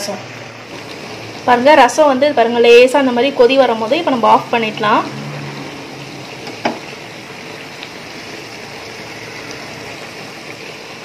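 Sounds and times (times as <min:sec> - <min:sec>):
pot boiling with steady hiss: 0:00.0 - 0:11.0.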